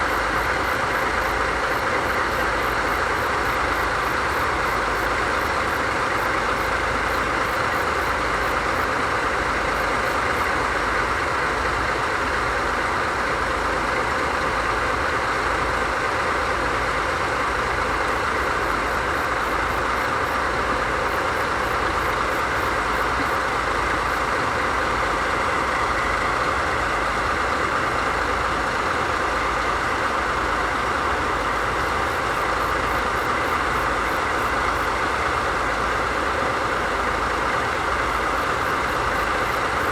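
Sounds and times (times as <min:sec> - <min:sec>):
diesel locomotive engine idling: 0:00.0 - 0:39.9.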